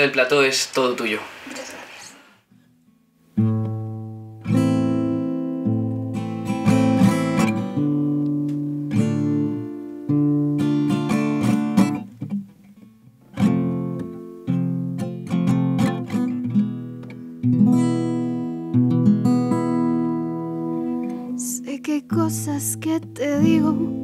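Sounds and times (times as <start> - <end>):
acoustic guitar strumming: 2.5 - 24.0.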